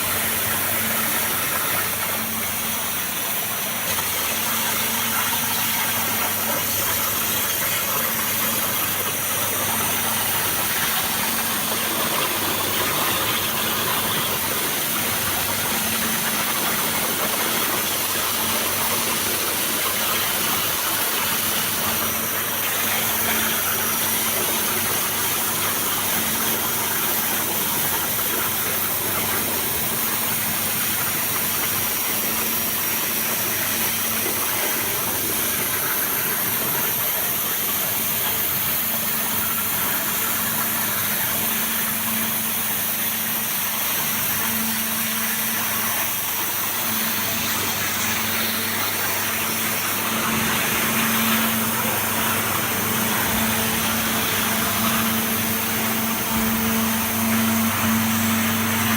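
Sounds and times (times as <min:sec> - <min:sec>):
low machine hum: 0:00.0 - 0:58.9.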